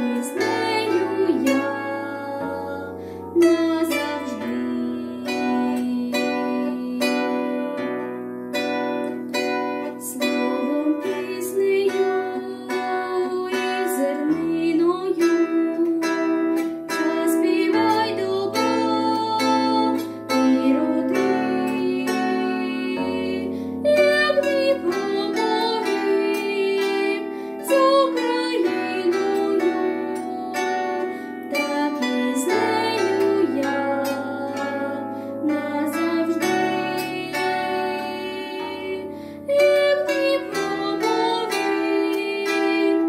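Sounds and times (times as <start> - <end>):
girl singing: 0.0 - 8.2, 9.3 - 43.0
plucked bandura strings: 0.0 - 43.0.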